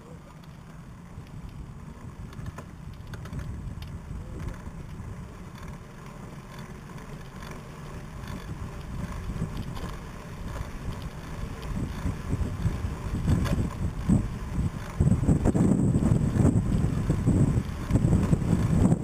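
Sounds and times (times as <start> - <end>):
tyres rolling on tarmac: 0.0 - 19.0
wind buffeting microphone: 1.0 - 5.8, 7.9 - 19.0.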